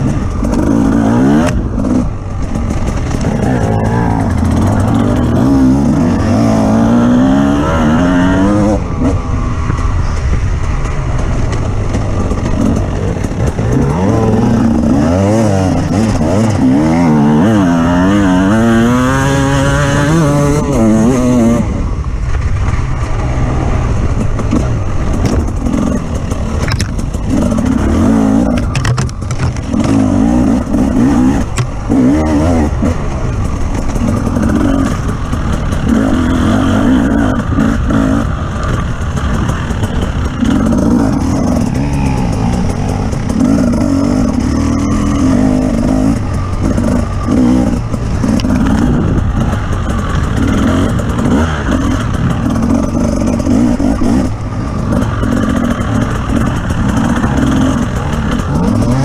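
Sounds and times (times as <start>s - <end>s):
off-road vehicle engine revving: 0.0s - 22.0s, 23.0s - 59.0s
knocks and clatter: 9.6s - 20.1s, 22.2s - 59.0s.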